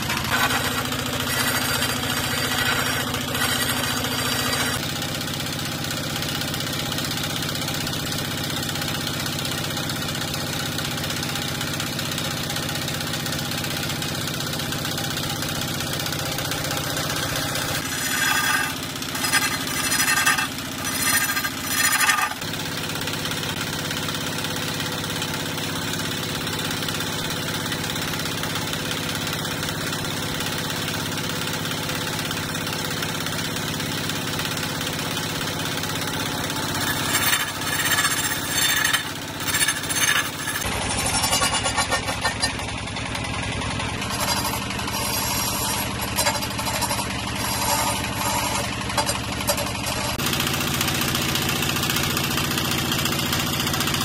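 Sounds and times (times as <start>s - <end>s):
lathe motor running: 0.0s - 24.2s, 27.4s - 54.0s
chisel scraping spinning log: 0.0s - 42.7s, 43.8s - 54.0s.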